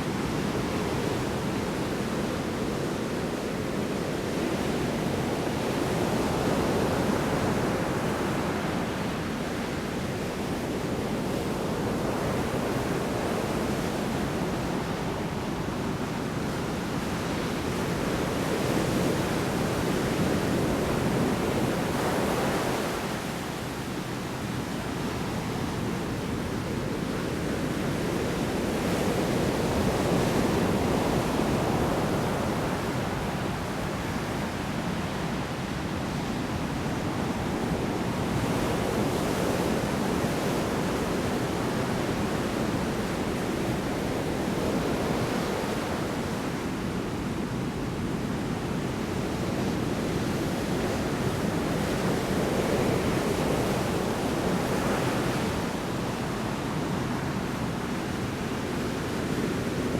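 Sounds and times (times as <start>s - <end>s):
heavy waves breaking on shore: 0.0s - 59.9s.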